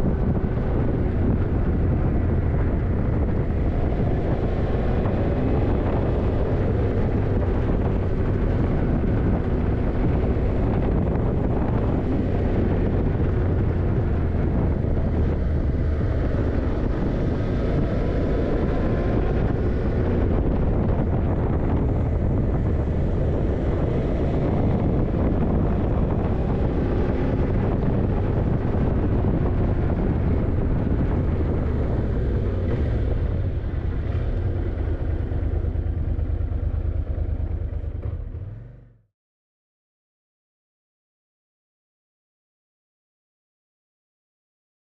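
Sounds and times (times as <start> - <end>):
wind buffeting microphone: 0.0 - 38.6
motorcycle engine running: 0.0 - 39.0.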